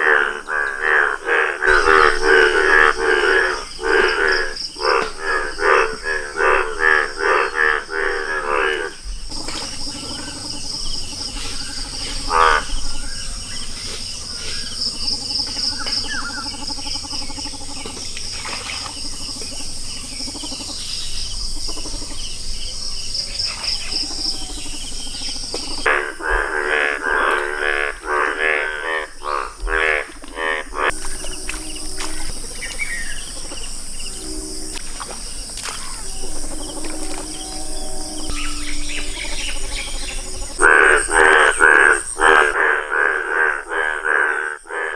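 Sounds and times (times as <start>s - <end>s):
bullfrogs croaking: 0.0s - 44.9s
insects trilling: 0.0s - 44.9s.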